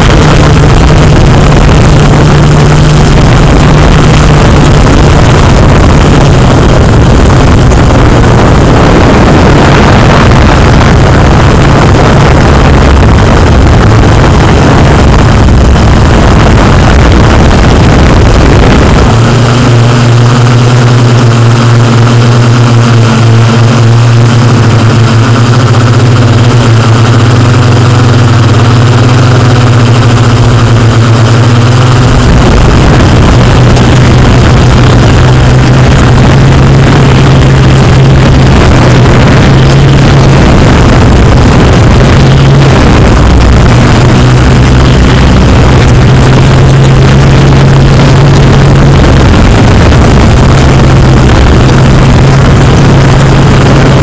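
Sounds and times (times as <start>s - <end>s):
deep rumble: 0.0s - 54.0s
drone propellers humming: 0.0s - 54.0s
rushing noise: 0.0s - 54.0s.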